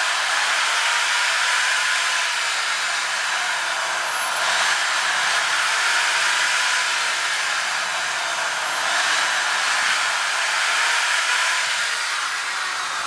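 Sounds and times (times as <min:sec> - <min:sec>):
electric power tool whirring: 0:00.0 - 0:13.0.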